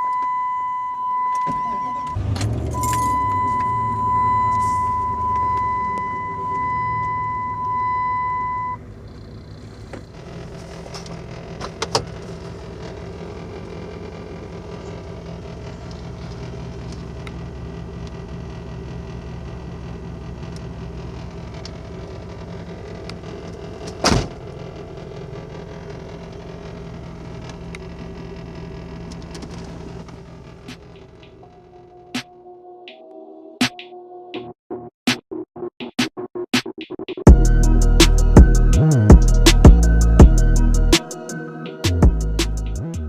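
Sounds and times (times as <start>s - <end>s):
car engine humming: 0.0s - 32.2s, 37.3s - 43.0s.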